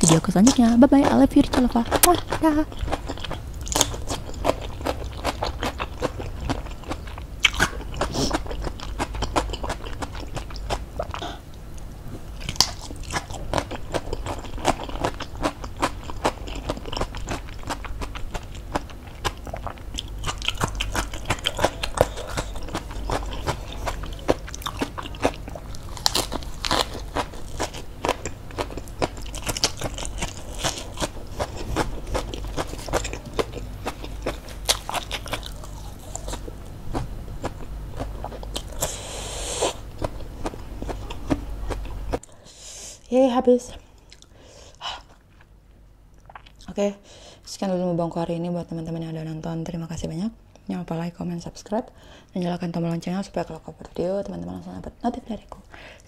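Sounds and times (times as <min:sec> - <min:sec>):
chewing crunchy food: 0:00.0 - 0:42.4, 0:44.0 - 0:46.8.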